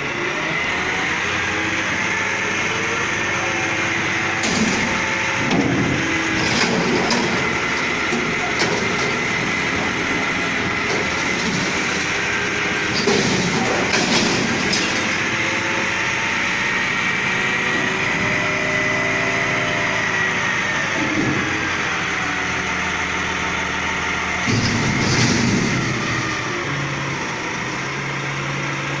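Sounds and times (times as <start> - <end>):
garbage truck engine whining: 0.0 - 29.0.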